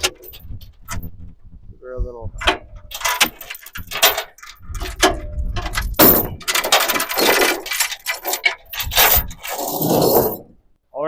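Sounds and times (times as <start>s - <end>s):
metal chains rattling and clinking: 0.0s - 1.1s, 2.4s - 10.5s
scraping: 0.0s - 10.7s.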